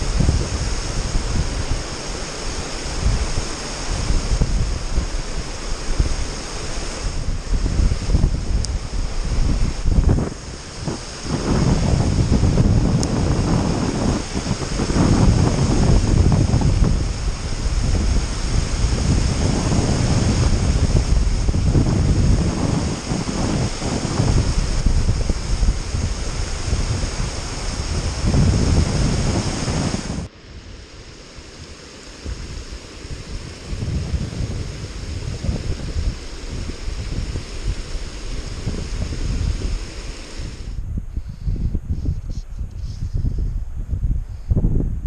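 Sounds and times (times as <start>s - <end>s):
water rushing over spillway: 0.0s - 40.8s
wind buffeting microphone: 0.0s - 45.0s.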